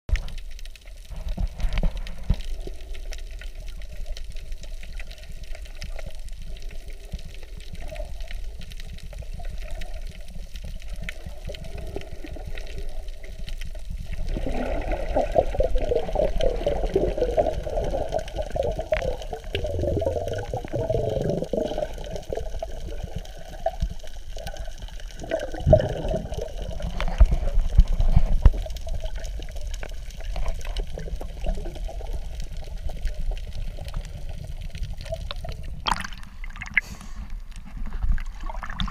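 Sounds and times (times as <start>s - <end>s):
muffled underwater water sloshing: 0.1s - 38.9s.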